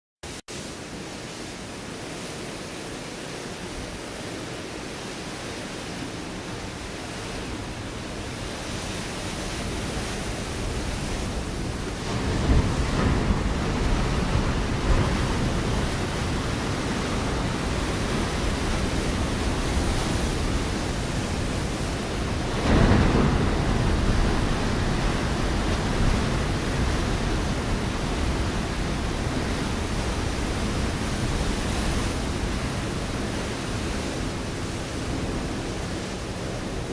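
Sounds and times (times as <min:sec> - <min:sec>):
heavy waves crashing: 0:00.3 - 0:36.9
ocean waves on rocky shore: 0:00.3 - 0:36.9.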